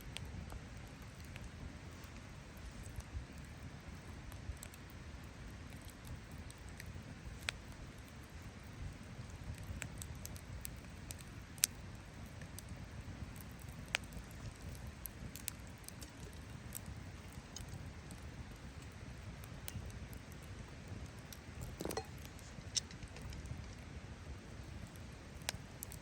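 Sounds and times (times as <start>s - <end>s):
campfire rumble: 0.0s - 26.0s
fire crackles and pops: 0.0s - 26.0s
fire hissing: 0.2s - 26.0s.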